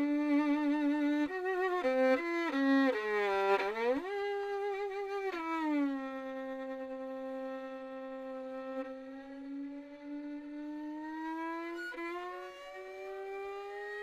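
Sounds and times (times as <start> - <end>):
solo violin melody: 0.0 - 14.0.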